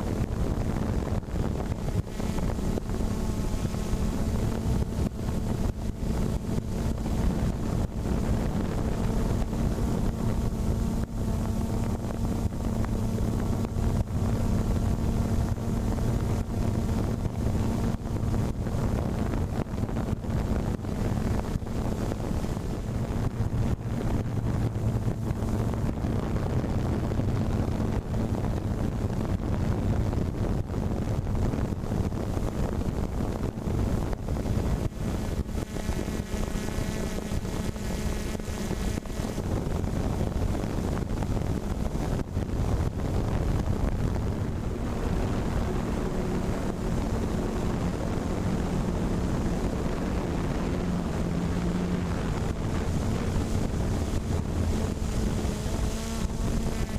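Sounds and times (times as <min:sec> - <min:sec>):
motor hum: 0:00.0 - 0:56.9
wind rumbling on microphone: 0:00.0 - 0:56.9.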